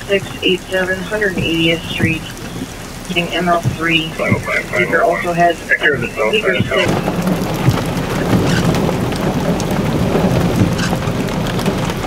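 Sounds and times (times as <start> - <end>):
heavy rain pouring: 0.0 - 12.0
low storm rumble: 0.0 - 12.0
raindrops ticking on surface: 0.0 - 12.0.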